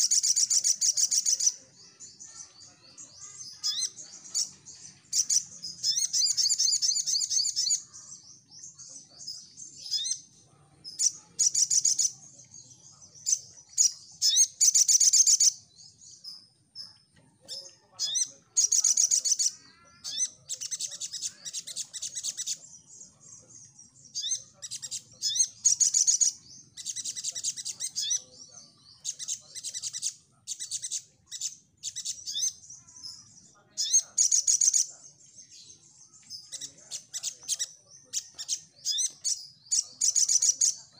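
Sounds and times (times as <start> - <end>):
bird singing trilled chirps: 0.0 - 40.9.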